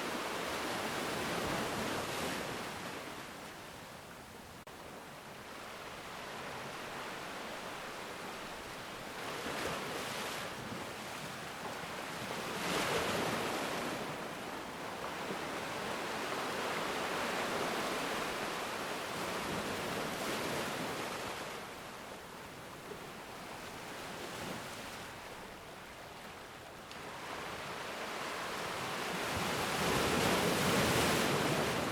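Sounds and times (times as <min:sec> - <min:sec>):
ocean waves washing ashore: 0:00.0 - 0:31.9.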